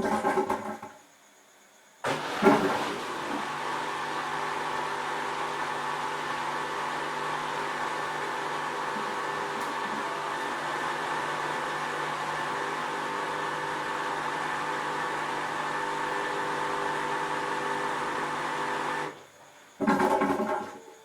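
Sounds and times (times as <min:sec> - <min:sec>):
washing machine whirring: 0:00.0 - 0:01.0, 0:02.0 - 0:21.0.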